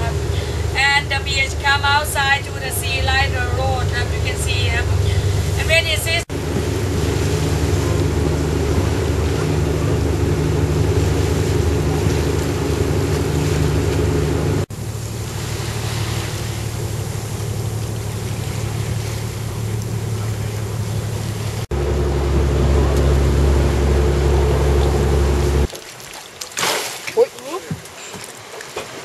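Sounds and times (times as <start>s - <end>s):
boat engine running: 0.0s - 25.7s.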